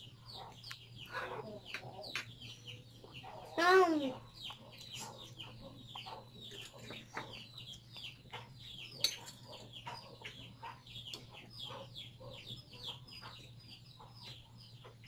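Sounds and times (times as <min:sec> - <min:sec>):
chickens chirping and clucking: 0:00.0 - 0:15.0.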